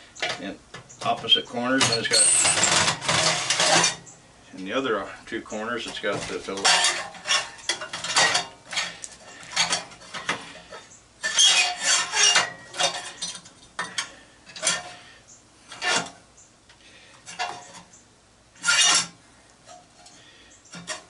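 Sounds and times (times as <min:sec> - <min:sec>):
metal tools clinking and scraping: 0:00.2 - 0:04.1, 0:05.6 - 0:15.0, 0:15.6 - 0:16.2, 0:17.2 - 0:18.0, 0:18.6 - 0:21.0.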